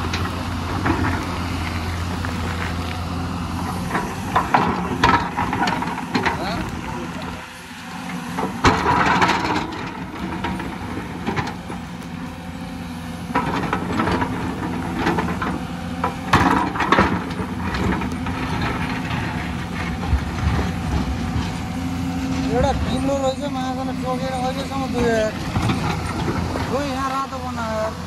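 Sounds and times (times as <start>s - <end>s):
excavator diesel engine under load: 0.0s - 28.0s.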